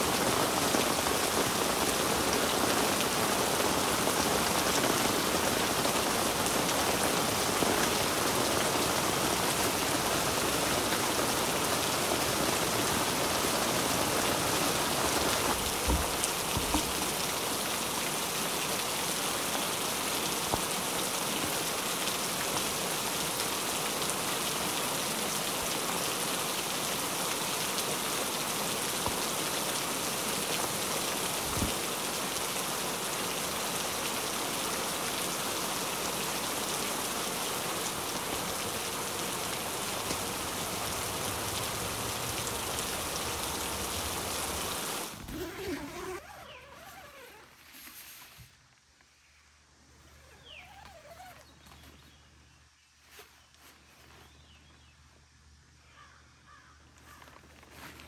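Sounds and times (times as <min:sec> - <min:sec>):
heavy rain on tent fabric: 0:00.0 - 0:49.2.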